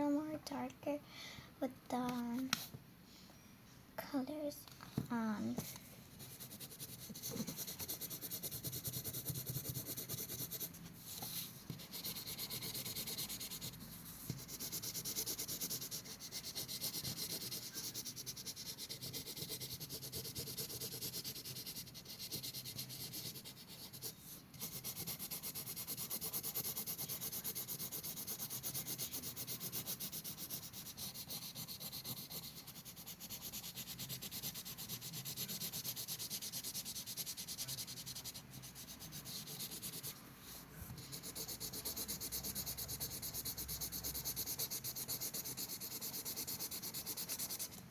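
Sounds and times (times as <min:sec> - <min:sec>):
pencil scratching on paper: 0:05.6 - 0:47.9.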